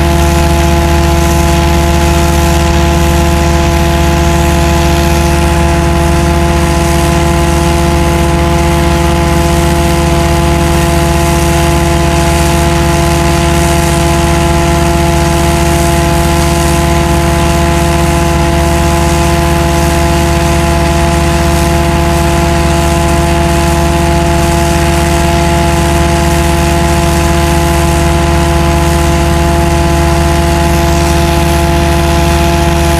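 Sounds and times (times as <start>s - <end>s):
sewer jetting unit engine drone: 0.0s - 32.9s
water rushing noise: 0.0s - 32.9s.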